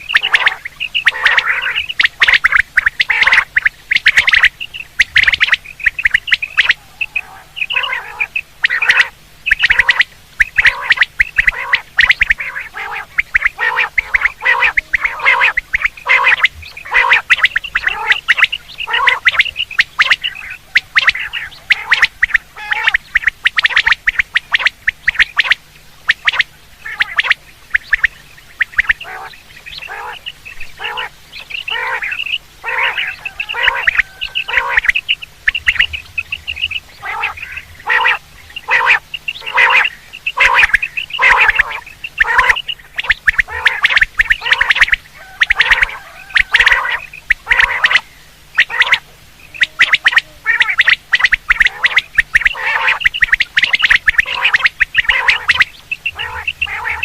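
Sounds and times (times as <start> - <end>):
quail calling in short notes: 0.0 - 57.0.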